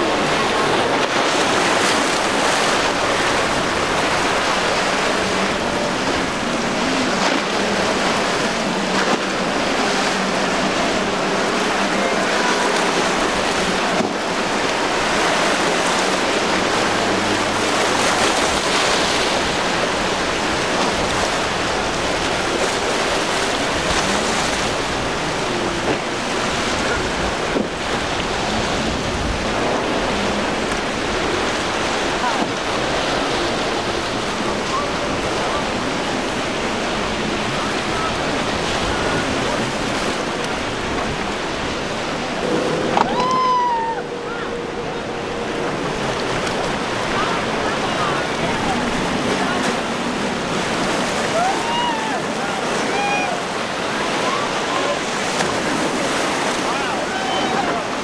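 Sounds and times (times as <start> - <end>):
outboard motors running: 0.0 - 58.0
surf rushing: 0.0 - 58.0
wind: 0.0 - 58.0.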